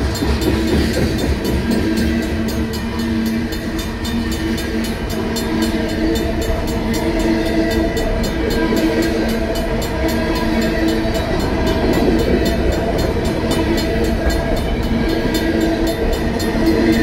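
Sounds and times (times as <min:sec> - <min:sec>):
crossing bells ringing: 0:00.0 - 0:17.0
train wheels rumbling on rails: 0:00.0 - 0:17.0.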